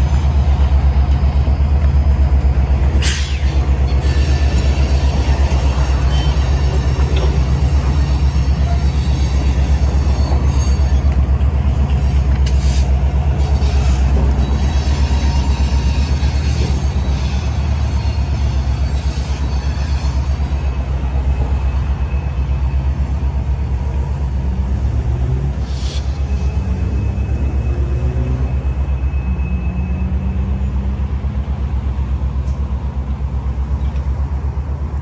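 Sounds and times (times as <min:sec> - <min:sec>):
diesel freight train rumbling: 0:00.0 - 0:35.0.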